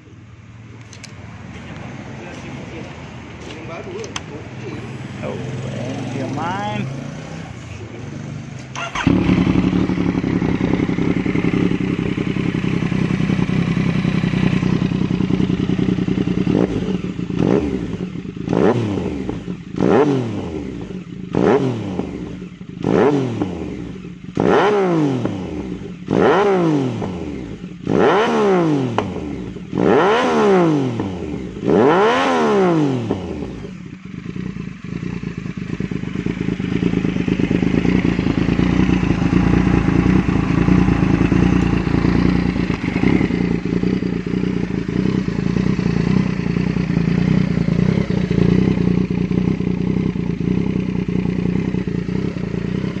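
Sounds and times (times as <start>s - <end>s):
motorcycle engine revving and idling: 0.0s - 53.0s.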